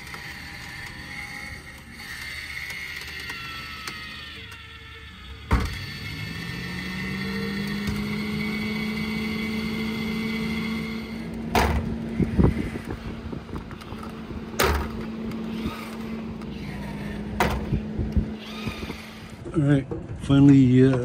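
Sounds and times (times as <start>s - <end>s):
vent motor whining: 0.0s - 21.0s.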